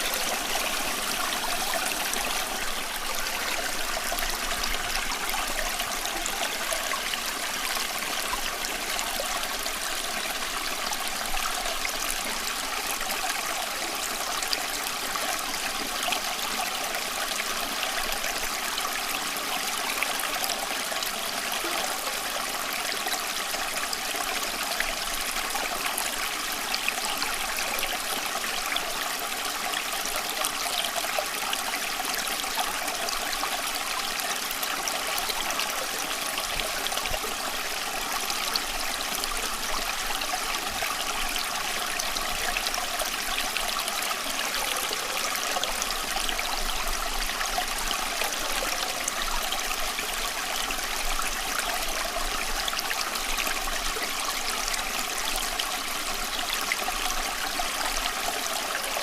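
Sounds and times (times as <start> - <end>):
flowing water: 0.0 - 59.0.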